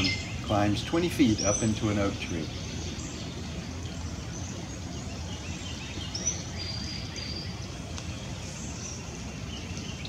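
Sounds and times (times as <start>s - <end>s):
distant bird chirps: 0.0s - 10.0s.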